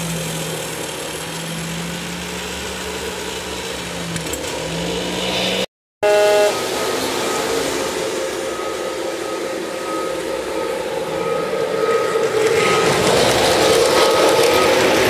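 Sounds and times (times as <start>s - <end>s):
model train wheels rumbling: 0.0s - 5.6s, 6.6s - 15.0s.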